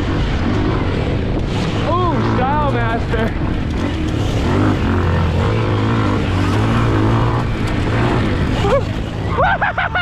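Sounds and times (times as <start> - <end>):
pit bike engine revving: 0.0 - 10.0.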